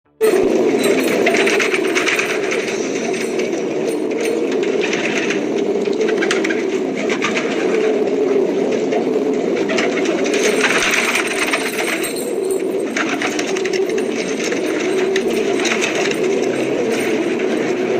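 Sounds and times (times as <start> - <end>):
pigeons cooing: 0.3 - 17.9.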